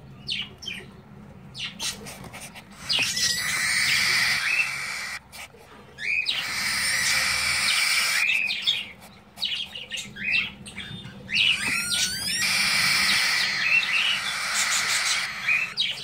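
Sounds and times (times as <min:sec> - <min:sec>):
chicks hissing begging calls: 0:01.7 - 0:10.2, 0:11.4 - 0:16.0.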